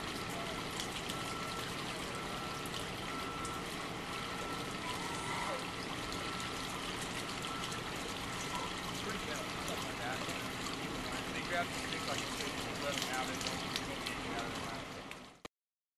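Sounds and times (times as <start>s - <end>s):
running trickling water: 0.0s - 15.4s.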